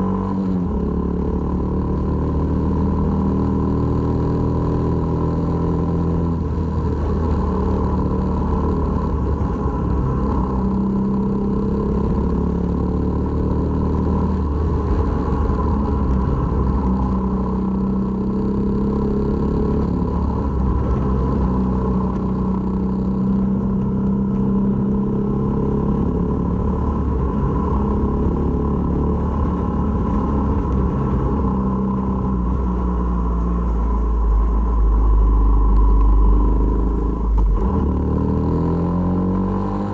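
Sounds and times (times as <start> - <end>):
motorcycle engine running: 0.0 - 39.9
wind rumble on microphone: 6.1 - 12.8, 13.9 - 39.9.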